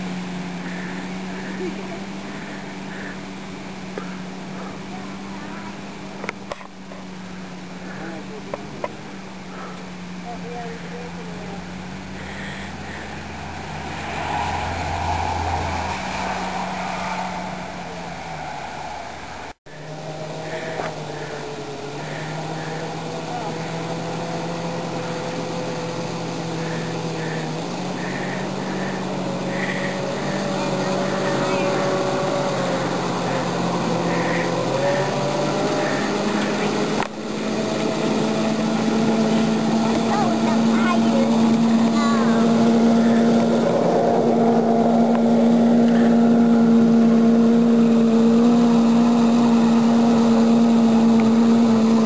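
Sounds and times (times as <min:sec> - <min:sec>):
small engine humming: 0:00.0 - 0:52.0.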